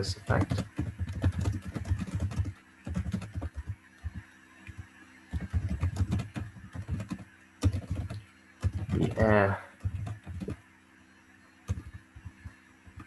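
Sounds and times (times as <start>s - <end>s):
keyboard typing: 0.2s - 10.6s, 11.7s - 13.0s.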